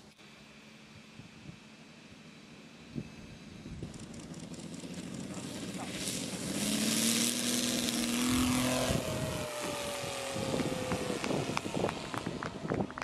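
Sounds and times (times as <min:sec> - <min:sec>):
model plane engine passing: 0:00.0 - 0:13.0.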